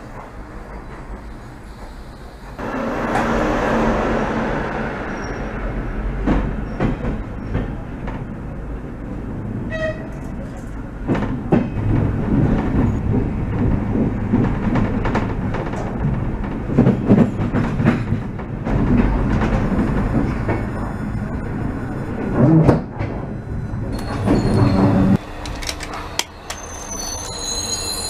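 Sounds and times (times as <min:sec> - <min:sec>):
train rumbling over tracks: 0:00.0 - 0:28.0.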